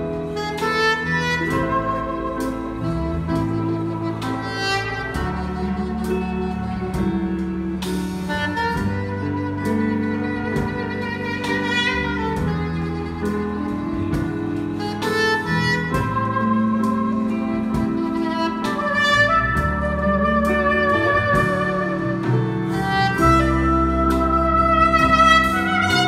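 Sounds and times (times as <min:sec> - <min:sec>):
drum kit with cymbals: 0:00.0 - 0:26.0
electric bass: 0:00.0 - 0:26.0
electric guitar: 0:00.0 - 0:26.0
keyboard: 0:00.0 - 0:26.0
soprano saxophone melody: 0:00.0 - 0:26.0.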